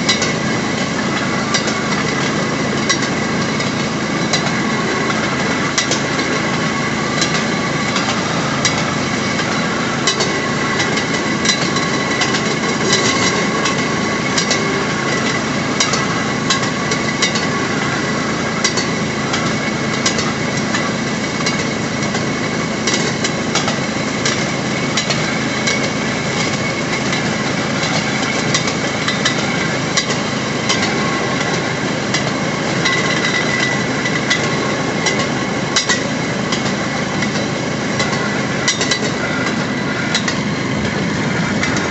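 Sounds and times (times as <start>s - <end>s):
rail motorcar engine running: 0.0s - 41.9s
wheels clicking on track: 0.0s - 41.9s.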